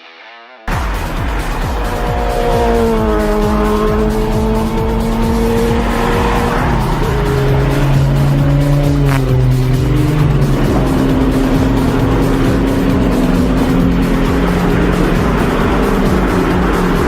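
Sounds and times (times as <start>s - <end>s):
car engine: 0.7s - 17.0s
music with pounding low end: 0.7s - 17.0s
sliding pitched note: 0.7s - 17.0s.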